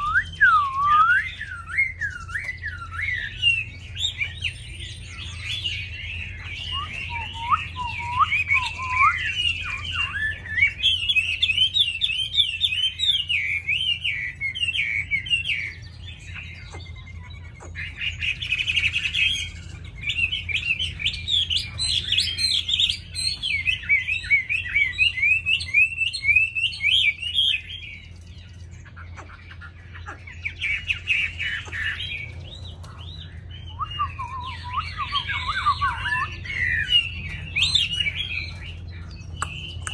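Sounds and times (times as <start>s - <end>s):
bird singing whistled phrases: 0.0s - 28.2s, 28.9s - 39.9s.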